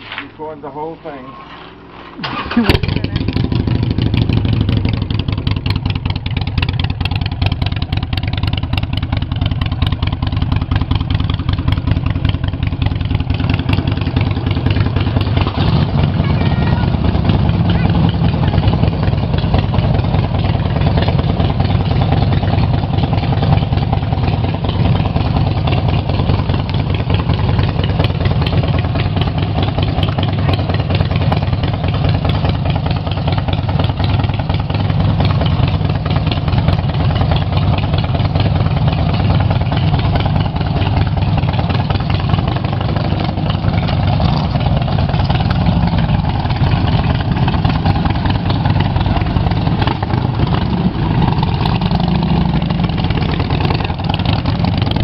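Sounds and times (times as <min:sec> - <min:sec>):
motorcycle engine running steadily: 0:02.2 - 0:55.0.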